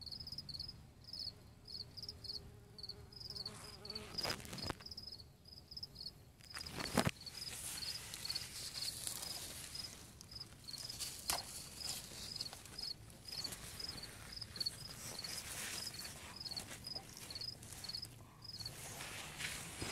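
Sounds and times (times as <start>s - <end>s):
insects chirping: 0.0s - 18.8s.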